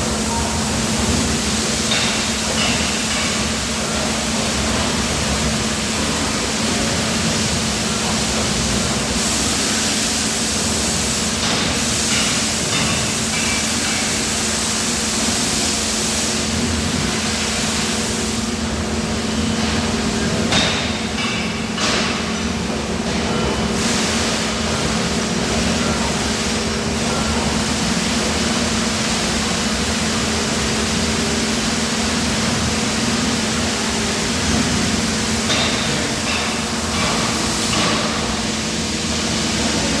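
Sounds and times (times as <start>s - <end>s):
steady machinery hiss: 0.0s - 40.0s.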